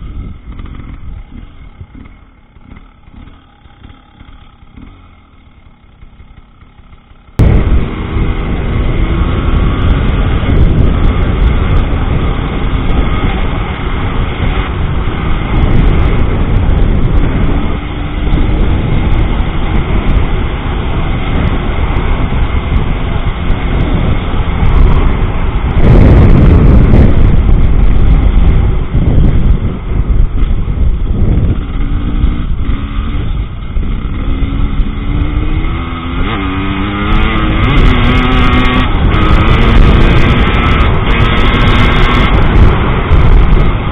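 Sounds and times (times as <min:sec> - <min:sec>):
motorcycle engine revving: 0:00.0 - 0:43.9
wind buffeting microphone: 0:07.4 - 0:43.9.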